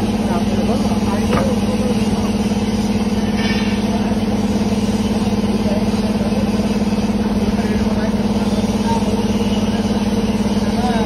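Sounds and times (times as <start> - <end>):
machine motor humming and pulsing: 0.0 - 11.0.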